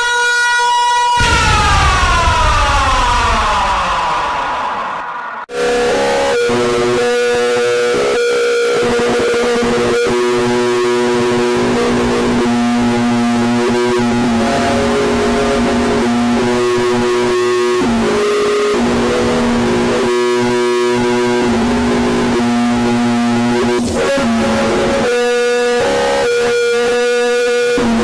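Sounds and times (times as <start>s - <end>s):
distorted guitar-like notes: 0.8s - 28.0s.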